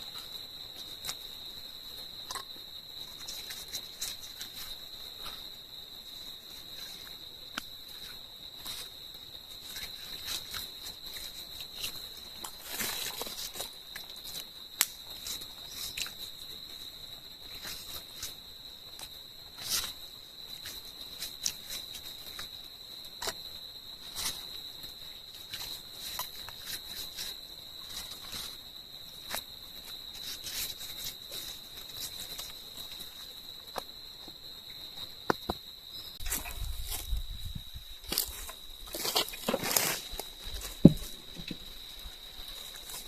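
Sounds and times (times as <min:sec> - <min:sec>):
insects chirping: 0:00.0 - 0:43.0
rustles: 0:00.0 - 0:43.0.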